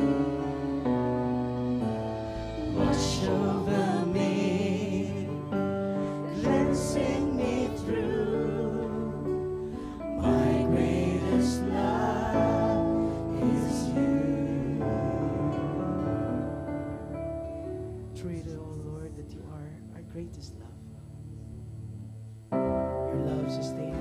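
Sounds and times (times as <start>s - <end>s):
worship band playing: 0.0s - 20.1s
singers holding long notes: 0.0s - 20.8s.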